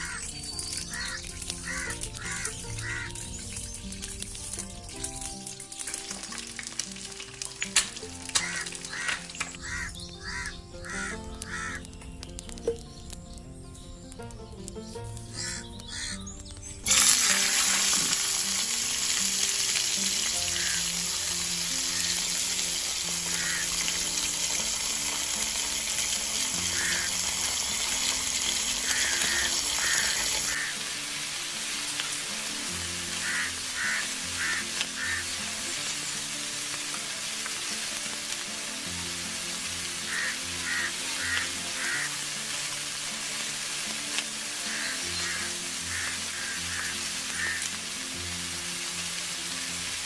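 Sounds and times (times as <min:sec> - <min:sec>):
background music: 0:00.0 - 0:50.0
batter sizzling in hot oil: 0:00.0 - 0:50.0.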